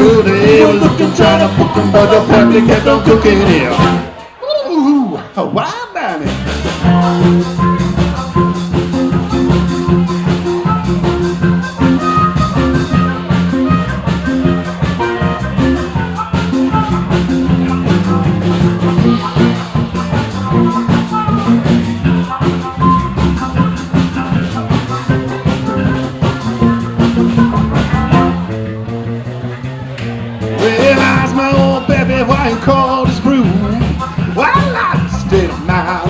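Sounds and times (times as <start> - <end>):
drum kit steady beat: 0.0 - 36.0
guitar playing: 0.0 - 36.0.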